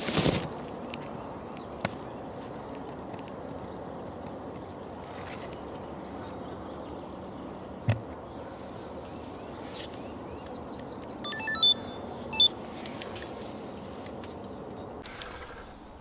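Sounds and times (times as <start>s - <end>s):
steady outdoor hiss: 0.0s - 16.0s
songbird singing: 0.5s - 13.0s, 13.6s - 15.0s.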